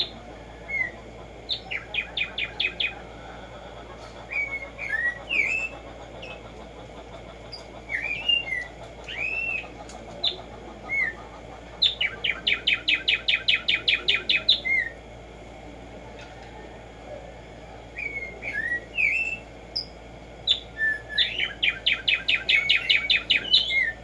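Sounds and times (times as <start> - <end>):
bird singing: 0.0 - 15.2, 17.1 - 24.0.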